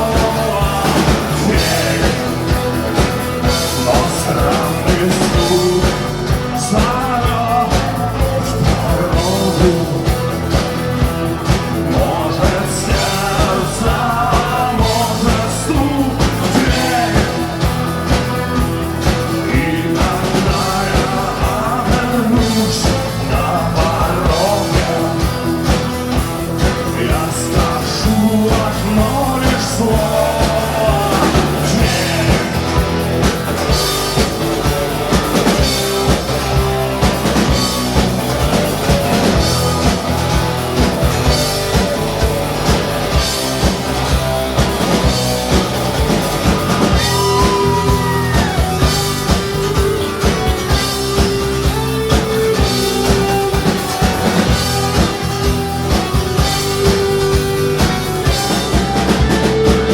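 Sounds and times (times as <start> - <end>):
drum kit beat: 0.0 - 59.9
live rock band playing: 0.0 - 59.9.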